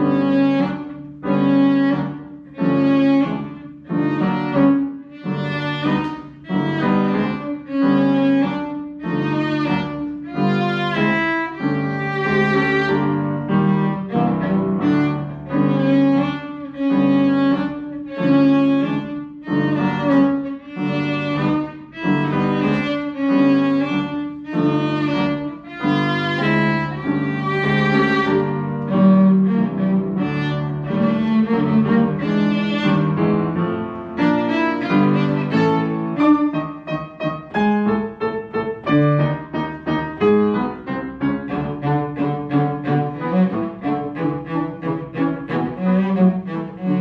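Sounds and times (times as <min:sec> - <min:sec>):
piano accompaniment: 0:00.0 - 0:47.0.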